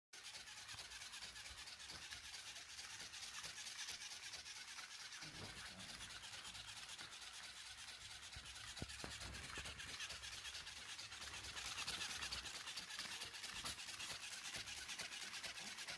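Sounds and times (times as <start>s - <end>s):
toy wings flapping: 0.2s - 15.9s.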